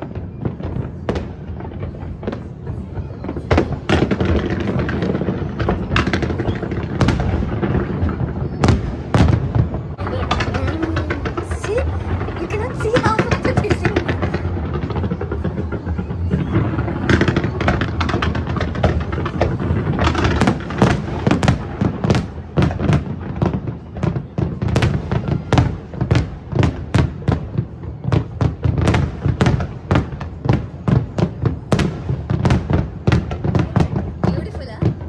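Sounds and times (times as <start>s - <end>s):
fireworks bangs and cracks: 0.0s - 35.0s.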